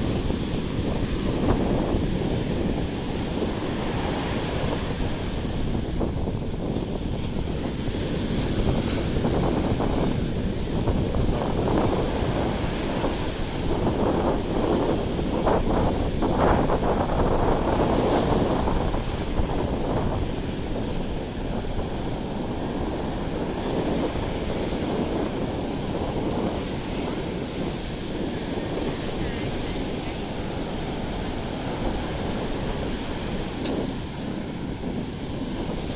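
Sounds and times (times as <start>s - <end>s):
sea surf washing onto beach: 0.0s - 35.9s
wind buffeting microphone: 0.0s - 35.9s.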